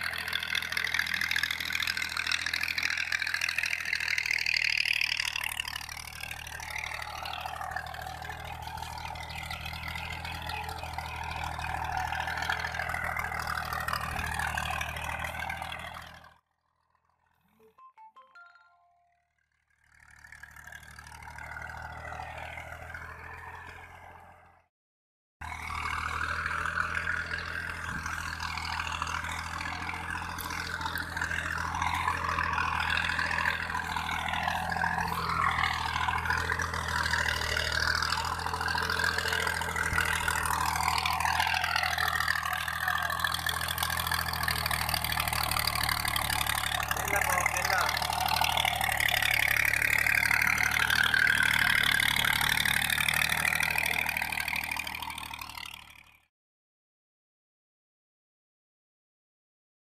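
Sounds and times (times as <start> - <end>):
tractor diesel engine under load: 0.0 - 24.7, 25.4 - 56.3.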